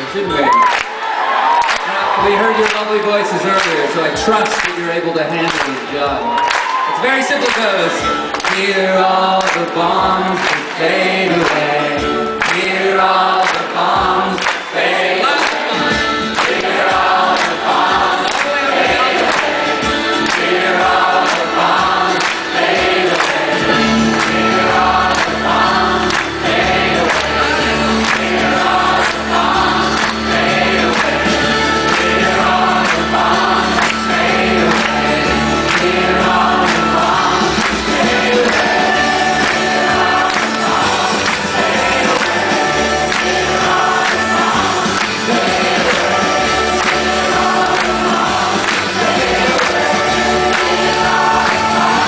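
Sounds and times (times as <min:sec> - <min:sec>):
crowd singing with band: 0:07.8 - 0:52.0.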